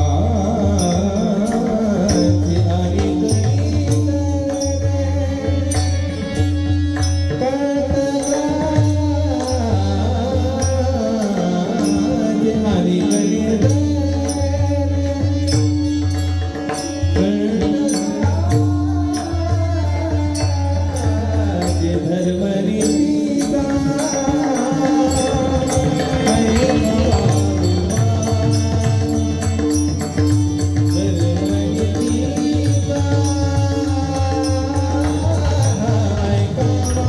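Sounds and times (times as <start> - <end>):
high-pitched male singing: 0.0 - 37.0
small hand cymbals: 0.0 - 37.0.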